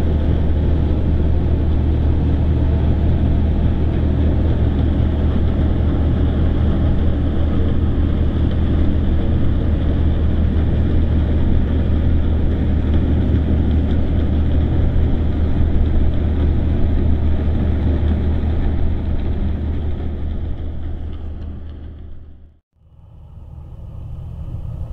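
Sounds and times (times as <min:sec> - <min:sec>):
ship diesel engine rumbling: 0:00.0 - 0:22.6.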